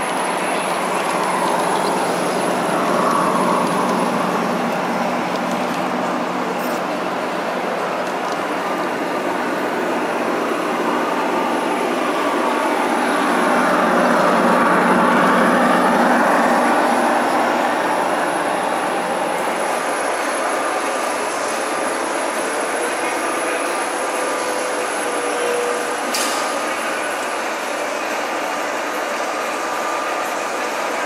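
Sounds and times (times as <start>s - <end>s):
model train rumbling on track: 0.0s - 31.0s.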